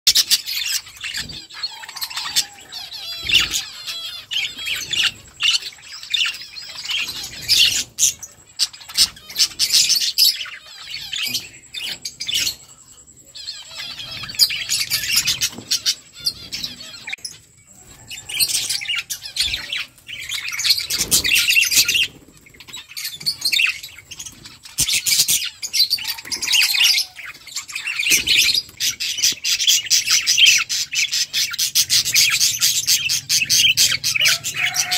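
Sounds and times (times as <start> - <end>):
budgerigars chirping and chattering: 0.1 - 34.9.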